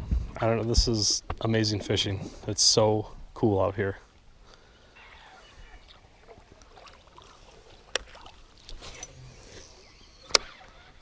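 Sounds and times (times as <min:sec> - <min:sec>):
faint water and boat sounds: 0:00.0 - 0:11.0.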